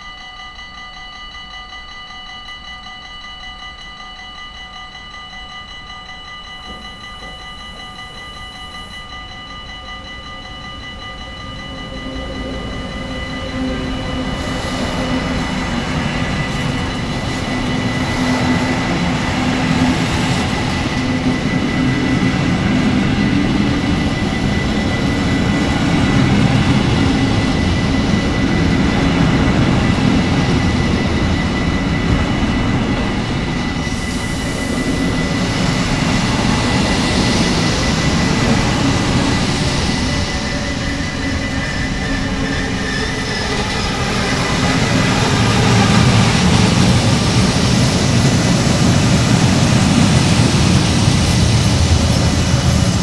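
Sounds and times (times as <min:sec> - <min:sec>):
thin steady high tone: 0:00.0 - 0:53.0
freight train wheels rumbling: 0:03.2 - 0:53.0.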